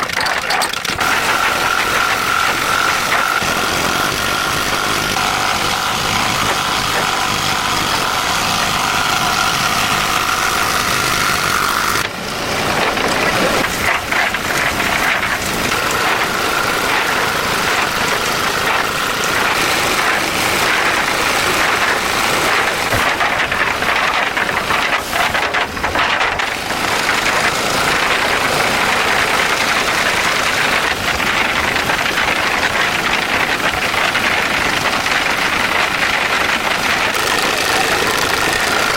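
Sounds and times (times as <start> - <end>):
concrete mixer engine running: 0.0 - 38.9.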